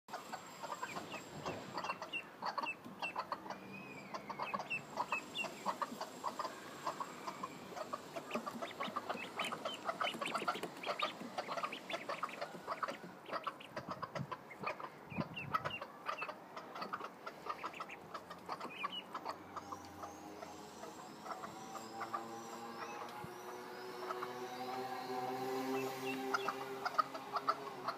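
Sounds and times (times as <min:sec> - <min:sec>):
hens clucking: 0:00.1 - 0:22.2, 0:25.7 - 0:27.9
ducklings peeping: 0:00.1 - 0:27.9.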